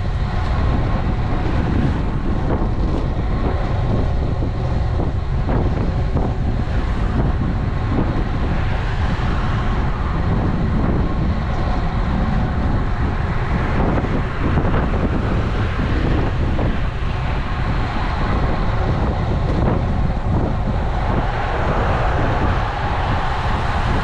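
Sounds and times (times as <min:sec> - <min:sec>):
road and tyre noise: 0:00.0 - 0:24.0
wind buffeting microphone: 0:00.0 - 0:24.0.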